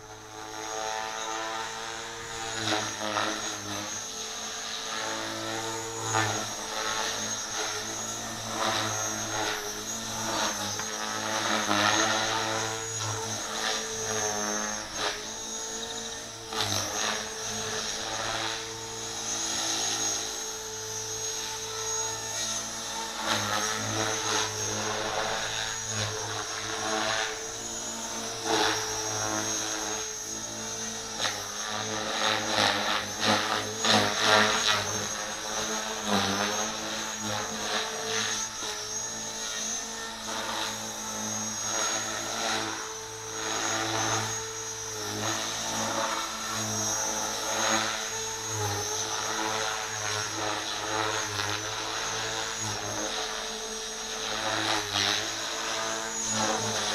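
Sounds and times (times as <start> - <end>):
rc helicopter motor whine: 0.0 - 56.9
rotor blades buzzing: 0.0 - 56.9.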